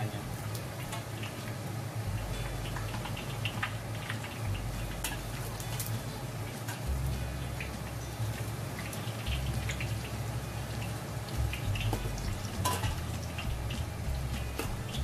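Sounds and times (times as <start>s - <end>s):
egg frying in oil: 0.0s - 15.0s
low hum: 2.0s - 15.0s.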